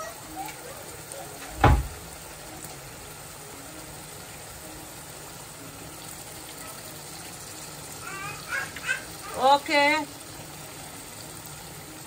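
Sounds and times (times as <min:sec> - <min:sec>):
curry simmering in saucepan: 0:00.0 - 0:12.0.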